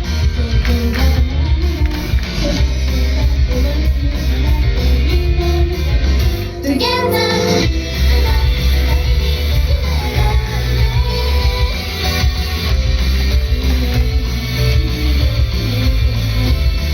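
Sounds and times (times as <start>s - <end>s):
heavy bass: 0.0s - 16.9s
strummed electric guitar: 0.0s - 16.9s
person singing: 0.2s - 16.9s.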